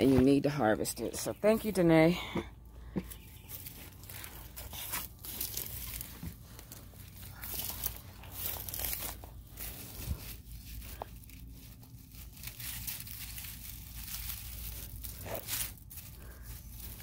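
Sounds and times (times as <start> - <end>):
dry leaves rustling: 3.1 - 17.0
roots tearing from soil: 3.1 - 17.0.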